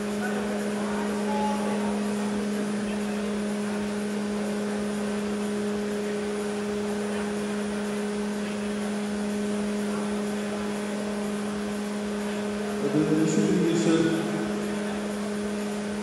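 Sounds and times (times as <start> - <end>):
large electric fans humming: 0.0 - 16.0.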